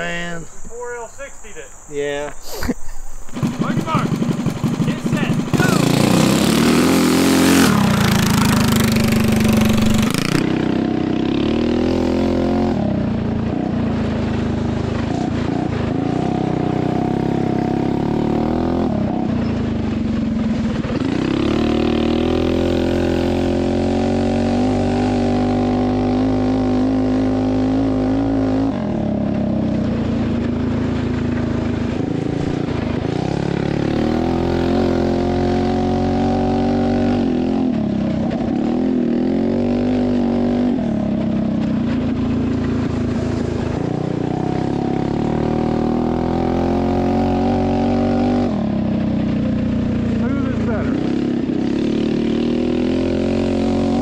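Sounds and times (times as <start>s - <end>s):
mini bike engine revving: 2.5s - 54.0s.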